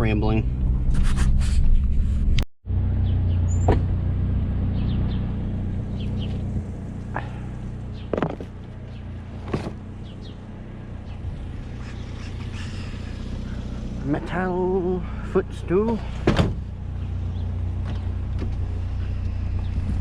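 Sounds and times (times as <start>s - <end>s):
pickup engine rumbling: 0.0s - 20.0s.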